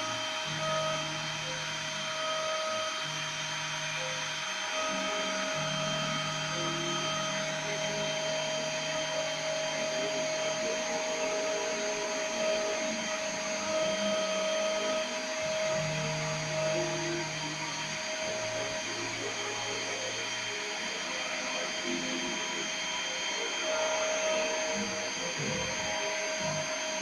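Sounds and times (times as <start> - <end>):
axis motors humming: 0.0 - 27.0
milling machine spindle whine: 0.0 - 27.0.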